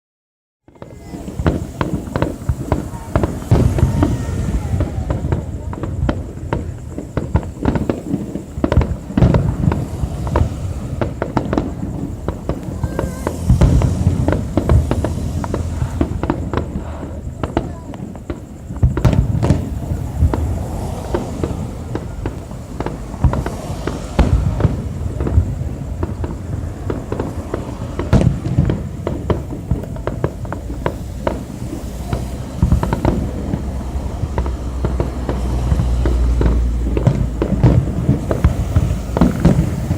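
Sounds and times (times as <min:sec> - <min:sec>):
fireworks bangs and crackles: 0:00.6 - 0:39.9.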